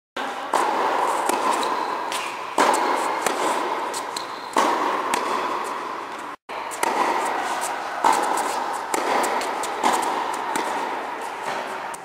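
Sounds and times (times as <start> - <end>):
tennis ball hits ringing: 0.5 - 6.0, 6.7 - 12.0.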